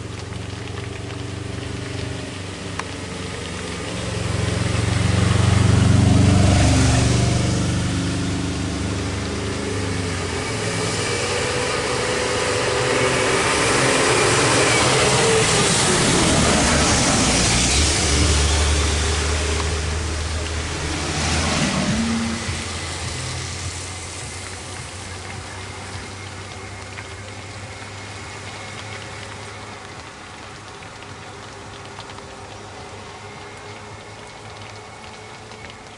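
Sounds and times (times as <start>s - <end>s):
vehicle engines running: 0.0s - 35.9s.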